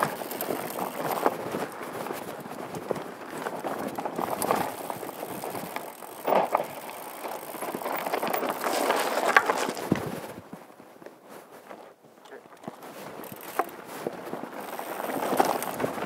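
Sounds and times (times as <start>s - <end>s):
mountain bike rattling: 0.0s - 10.4s, 11.6s - 16.0s
tyres crunching on gravel: 0.0s - 10.5s, 11.7s - 16.0s.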